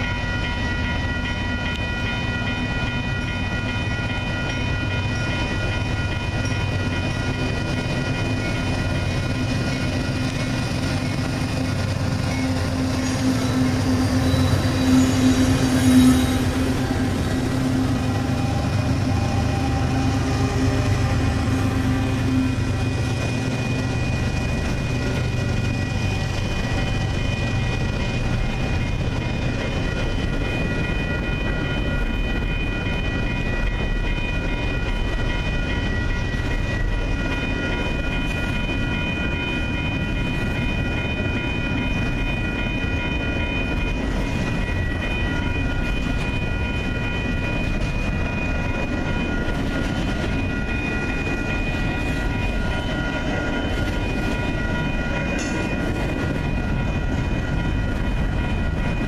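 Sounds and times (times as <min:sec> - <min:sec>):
freight train wheels rumbling on rail: 0:00.0 - 0:59.0
high-pitched ringing tones: 0:00.0 - 0:59.0.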